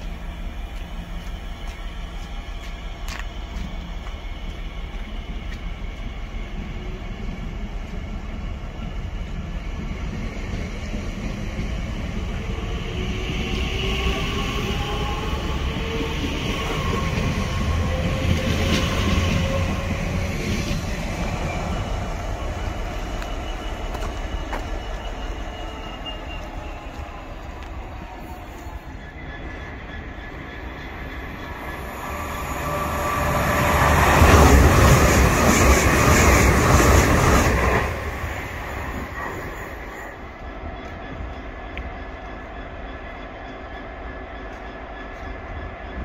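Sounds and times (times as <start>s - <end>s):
train running past: 0.0s - 46.0s.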